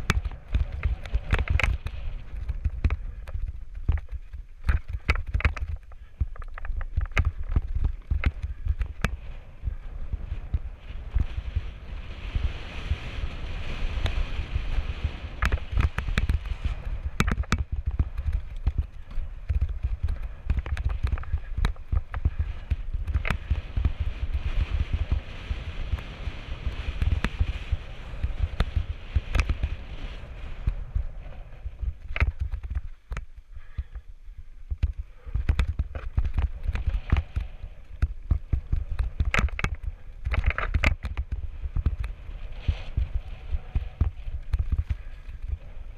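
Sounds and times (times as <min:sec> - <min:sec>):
bike clicks and rattles: 0:00.0 - 0:45.9
wind buffeting microphone: 0:00.0 - 0:45.9.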